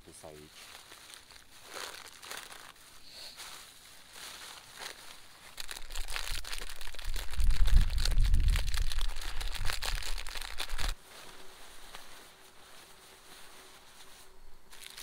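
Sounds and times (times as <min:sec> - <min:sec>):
crinkling and rustling: 0:00.1 - 0:15.0.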